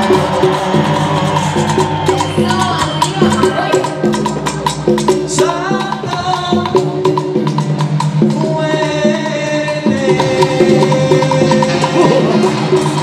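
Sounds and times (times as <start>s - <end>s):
salsa music: 0.0s - 13.0s.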